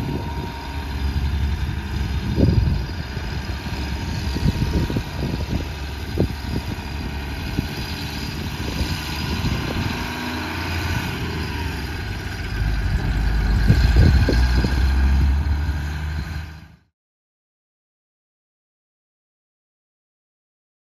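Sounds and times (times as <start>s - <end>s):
truck diesel engine rumbling: 0.0s - 16.9s.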